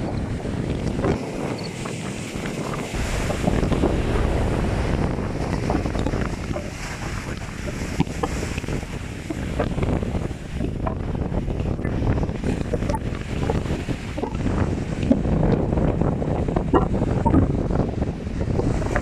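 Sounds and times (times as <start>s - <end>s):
rough sea surf: 0.0s - 19.0s
strong wind buffeting microphone: 0.0s - 19.0s.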